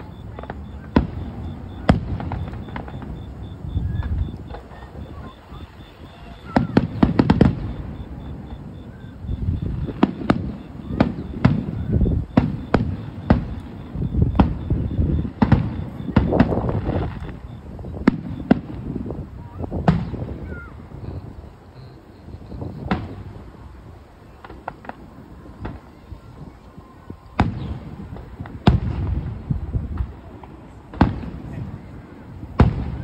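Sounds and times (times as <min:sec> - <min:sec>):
fireworks banging: 0:00.0 - 0:33.0.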